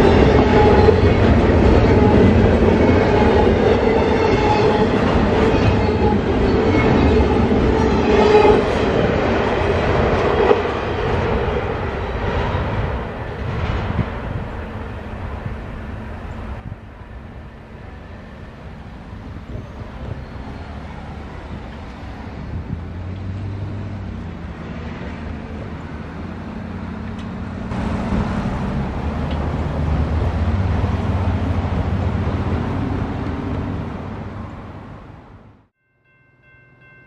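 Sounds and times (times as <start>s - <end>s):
freight train rumble: 0.0s - 35.7s.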